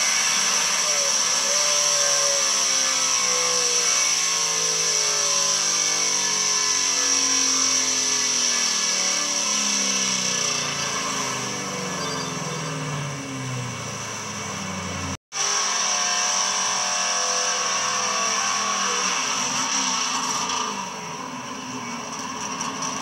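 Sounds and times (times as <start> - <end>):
car engine winding down: 0.0 - 23.0.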